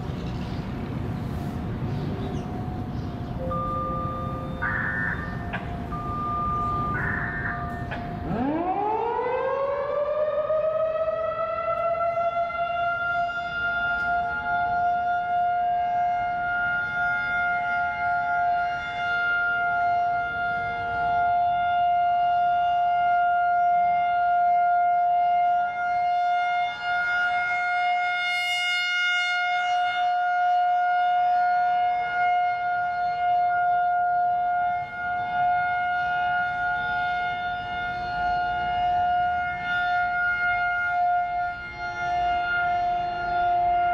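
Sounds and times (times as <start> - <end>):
warning siren steady tone: 2.3 - 43.9.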